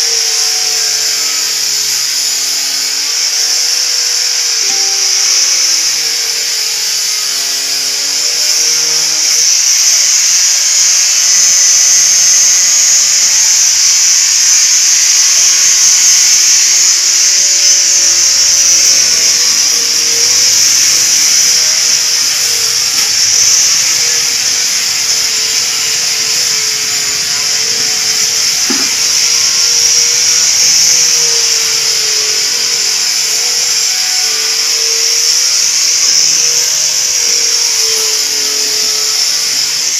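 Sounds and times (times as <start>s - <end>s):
electric polisher whining: 0.0s - 39.9s.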